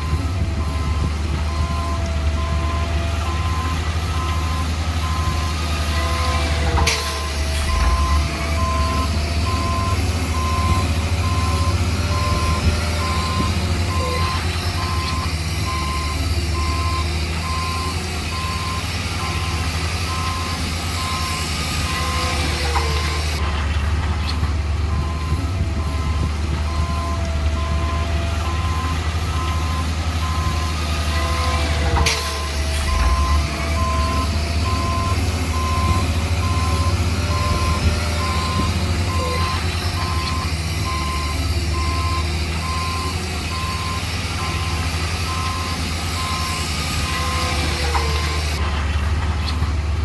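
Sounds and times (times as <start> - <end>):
reversing alarm beeping: 0.0 - 23.4, 24.9 - 48.6
diesel engine running: 0.0 - 50.0.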